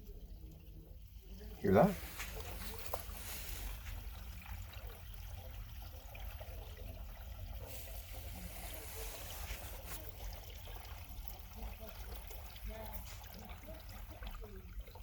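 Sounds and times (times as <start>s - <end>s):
water trickling through drain pipe: 0.0s - 15.0s.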